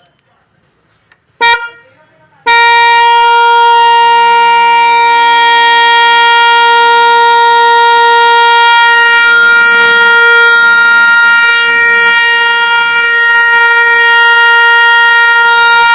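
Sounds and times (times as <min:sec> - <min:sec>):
vehicle horn long note: 0:01.4 - 0:15.9.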